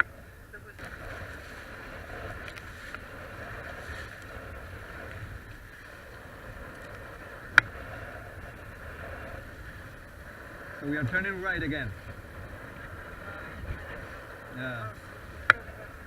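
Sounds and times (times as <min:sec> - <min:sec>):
water rushing: 0:00.0 - 0:16.0
wind: 0:00.0 - 0:16.0.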